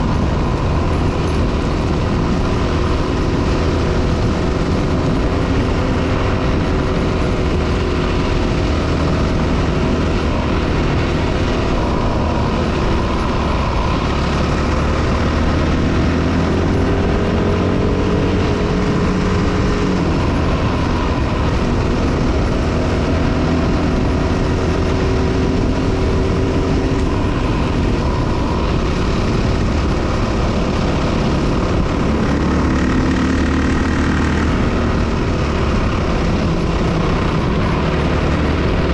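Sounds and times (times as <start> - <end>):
dirt bike engine running: 0.0 - 38.9
steady rushing noise: 0.0 - 38.9.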